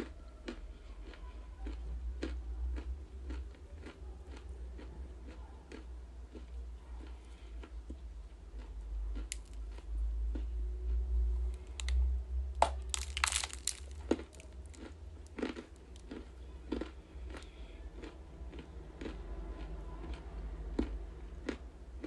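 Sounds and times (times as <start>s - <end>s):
chewing crunchy ice: 0.0s - 12.0s, 12.6s - 22.0s.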